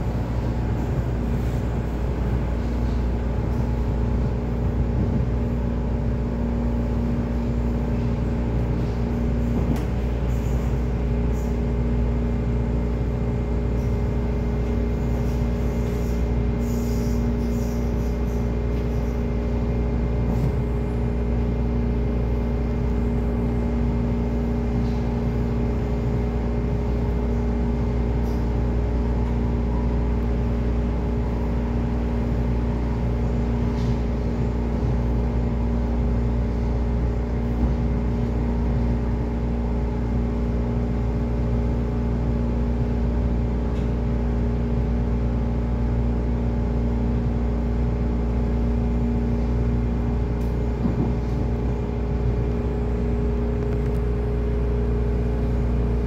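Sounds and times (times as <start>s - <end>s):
steady low hum: 0.0s - 56.0s
wheels rumbling on rail: 0.0s - 56.0s.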